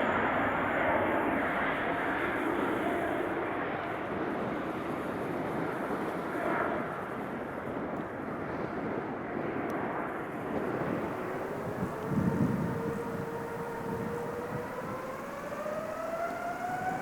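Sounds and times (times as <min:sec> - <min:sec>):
jet engine spooling up whine: 0:00.0 - 0:17.0
jet engines roaring: 0:00.0 - 0:17.0.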